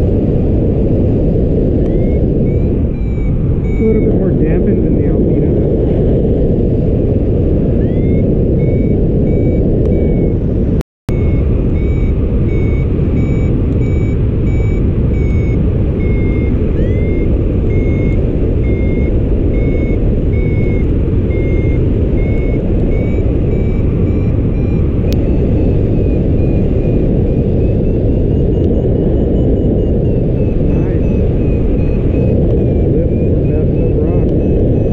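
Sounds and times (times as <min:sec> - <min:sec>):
wind rushing past microphone: 0:00.0 - 0:34.9
variometer beeping: 0:01.1 - 0:05.6, 0:06.8 - 0:34.9.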